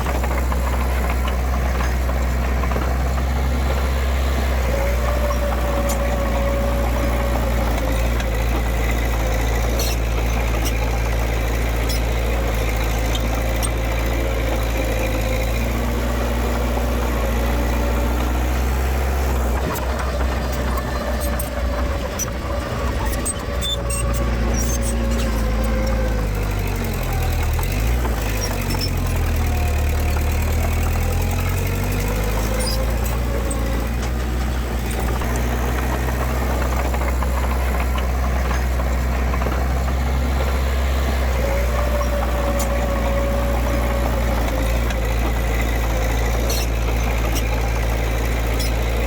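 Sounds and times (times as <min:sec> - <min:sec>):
diesel engine droning: 0:00.0 - 0:49.0.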